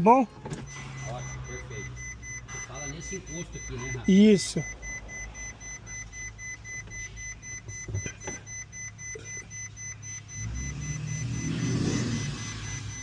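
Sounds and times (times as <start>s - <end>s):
rapid high-pitched electronic beeping: 0.7s - 13.0s.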